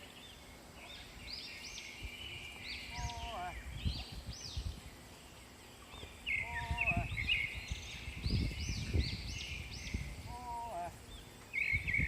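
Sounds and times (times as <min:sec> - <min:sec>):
bird chirps: 0:00.0 - 0:12.0
low stepped bird call: 0:00.0 - 0:12.0.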